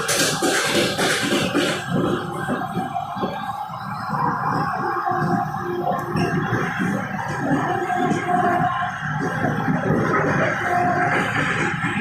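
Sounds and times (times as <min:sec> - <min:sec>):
howling train whine: 0:00.0 - 0:12.0
wheels rumbling on rails: 0:00.0 - 0:12.0.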